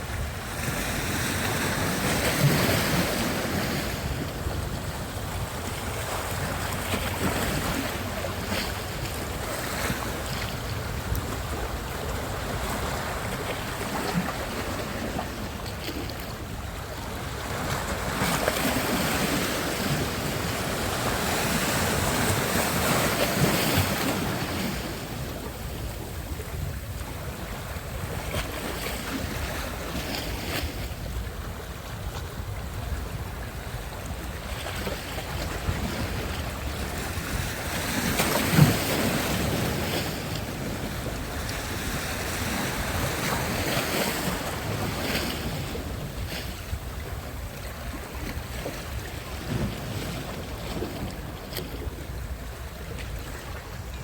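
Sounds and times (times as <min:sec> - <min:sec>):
waves washing onto shore: 0:00.0 - 0:54.0
wind buffeting microphone: 0:00.0 - 0:54.0.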